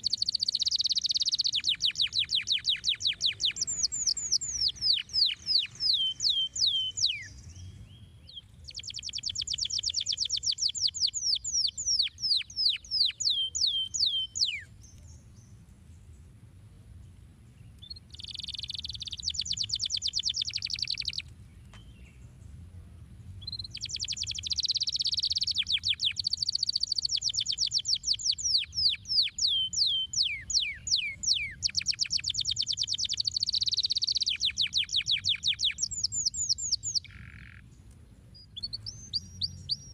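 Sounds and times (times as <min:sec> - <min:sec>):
canary singing: 0:00.0 - 0:15.4, 0:17.8 - 0:21.8, 0:23.4 - 0:37.7, 0:38.4 - 0:39.9.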